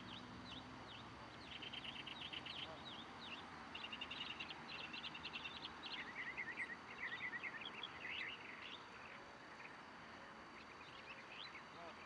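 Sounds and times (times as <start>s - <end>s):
outdoor background hiss: 0.0s - 12.0s
songbirds chirping: 0.0s - 12.0s.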